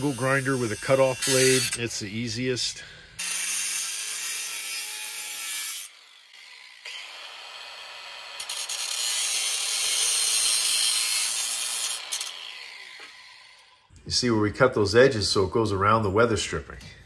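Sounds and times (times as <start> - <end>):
angle grinder cutting metal: 0.0 - 13.9.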